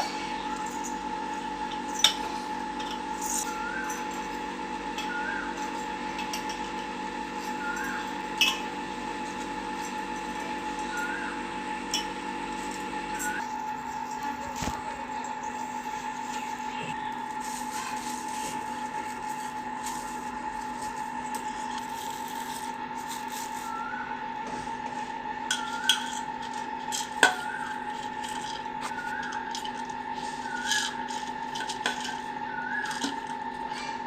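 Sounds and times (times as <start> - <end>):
mixer grinder running: 0.0 - 34.0.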